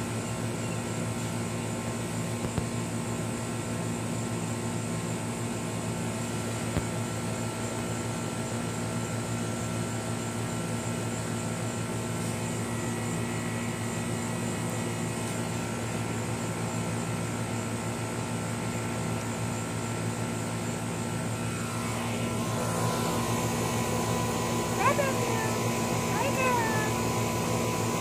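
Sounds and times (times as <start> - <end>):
air conditioner unit droning: 0.0 - 28.0.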